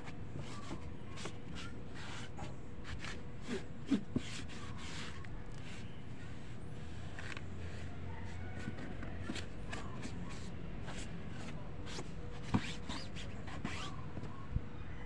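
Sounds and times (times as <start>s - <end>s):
hand rubbing plastic panels: 0.0s - 14.4s.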